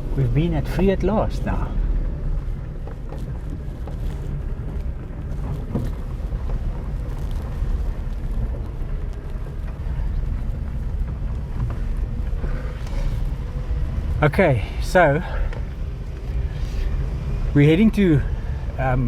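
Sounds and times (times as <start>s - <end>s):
vehicle rumbling on gravel: 0.0s - 19.0s.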